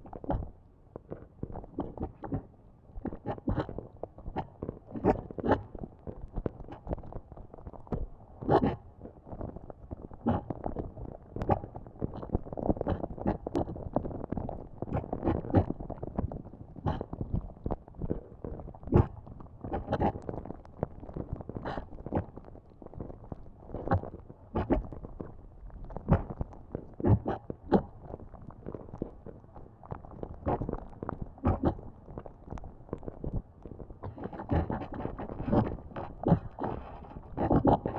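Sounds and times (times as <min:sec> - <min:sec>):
lava bubbling and popping: 0:00.0 - 0:37.9.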